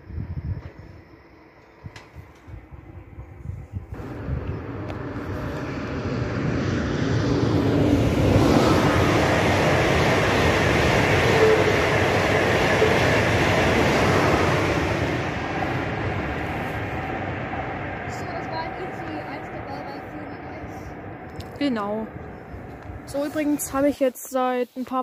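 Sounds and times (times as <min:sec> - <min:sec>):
high-speed train passing: 0:00.0 - 0:24.6.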